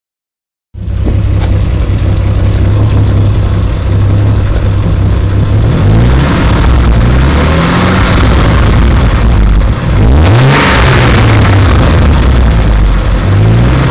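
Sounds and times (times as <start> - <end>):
car engine idling roughly: 0.7 - 13.9
engine ticking noise: 0.7 - 13.9.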